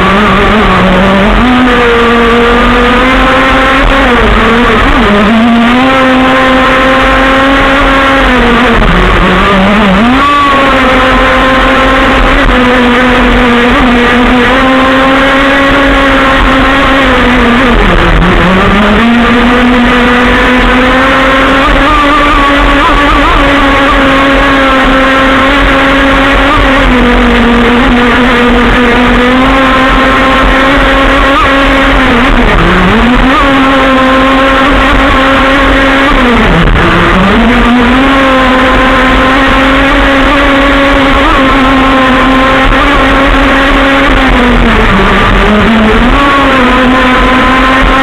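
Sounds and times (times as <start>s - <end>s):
two-stroke model engine at high revs: 0.0s - 48.0s.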